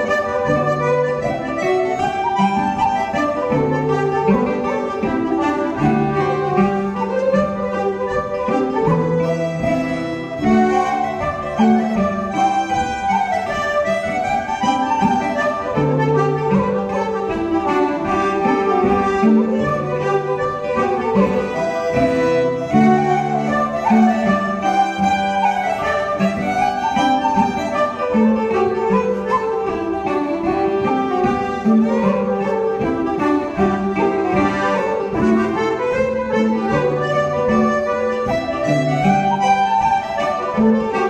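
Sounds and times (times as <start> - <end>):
folk dance tune on flute and fiddle: 0.0 - 41.0
strummed bouzouki chords: 0.0 - 41.0.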